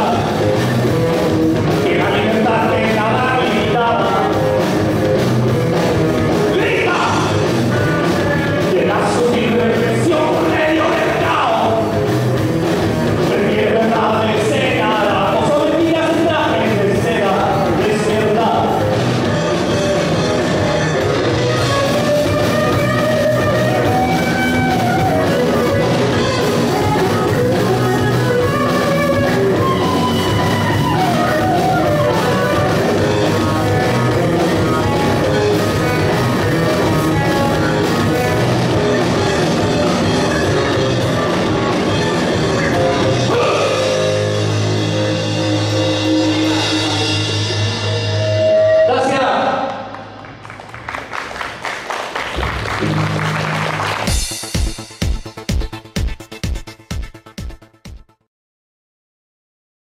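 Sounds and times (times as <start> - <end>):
hard rock band playing: 0.0 - 49.4, 52.2 - 57.9.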